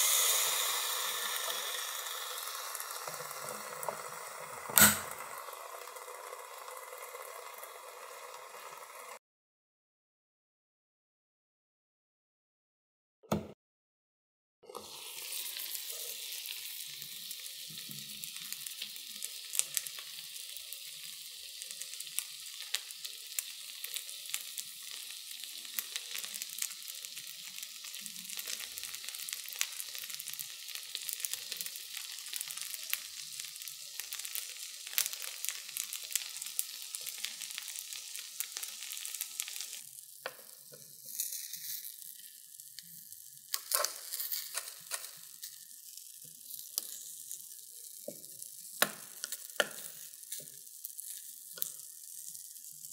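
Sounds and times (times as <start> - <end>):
food sizzling and popping: 0.0 - 9.2, 14.6 - 52.9.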